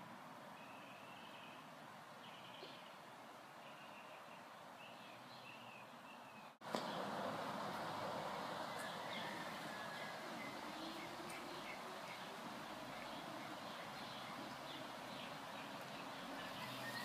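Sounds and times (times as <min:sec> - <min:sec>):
steady background noise: 0:00.0 - 0:17.0
small birds chirping: 0:00.5 - 0:07.3, 0:08.2 - 0:17.0.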